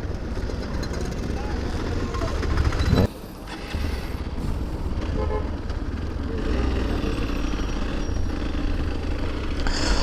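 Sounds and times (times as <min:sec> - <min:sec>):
wind: 0:00.0 - 0:10.0.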